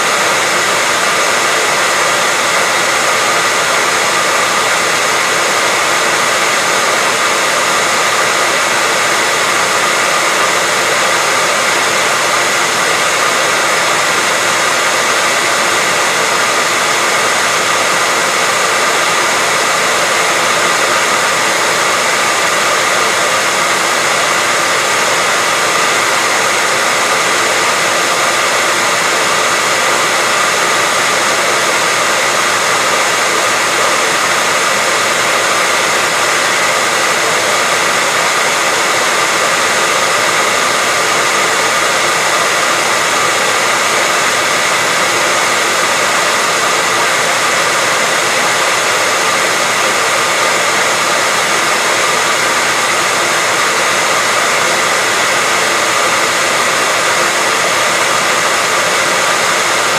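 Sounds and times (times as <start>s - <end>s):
hairdryer running: 0.0s - 59.9s.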